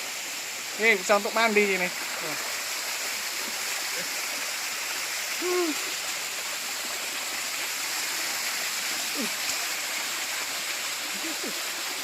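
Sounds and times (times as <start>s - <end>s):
waterfall pouring into pool: 0.0s - 12.0s.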